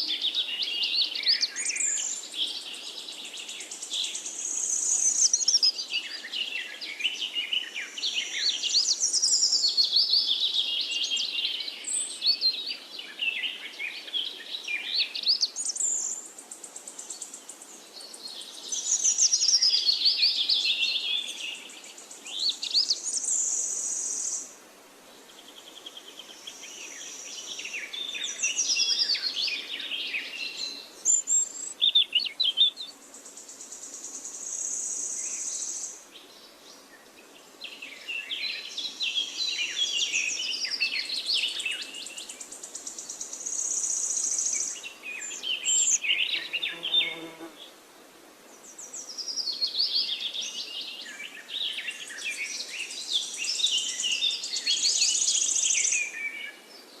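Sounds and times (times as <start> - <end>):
songbirds chirping and warbling: 0.0 - 57.0.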